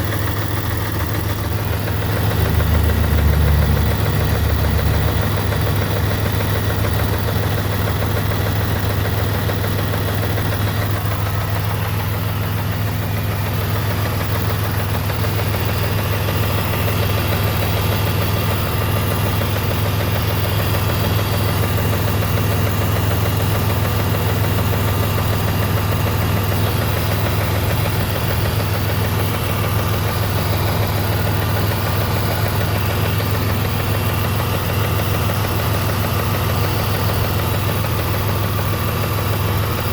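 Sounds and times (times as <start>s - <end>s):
car engine idling with ticking: 0.0s - 39.9s.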